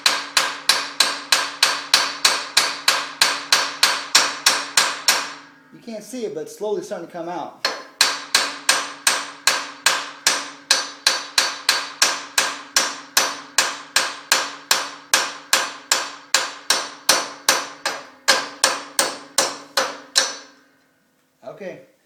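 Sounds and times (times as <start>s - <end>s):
hammer blows on metal: 0.0s - 5.8s, 7.6s - 20.6s.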